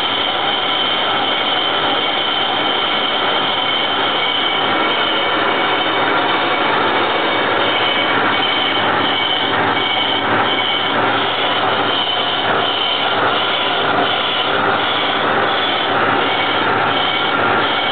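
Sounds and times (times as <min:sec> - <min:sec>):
high pulsing squeal: 0:00.0 - 0:17.9
lathe cutting and gearbox noise: 0:00.0 - 0:17.9.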